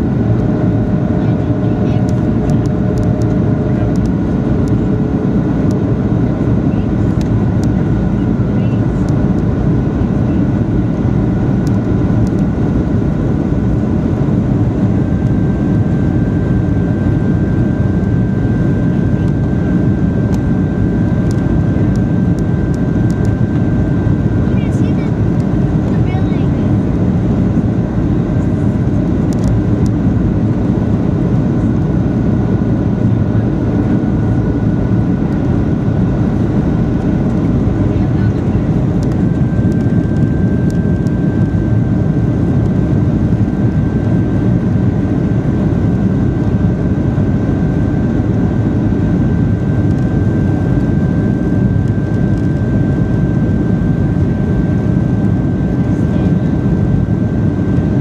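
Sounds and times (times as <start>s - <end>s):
jet engines roaring in cabin: 0.0s - 58.0s
thin steady whine: 0.0s - 58.0s.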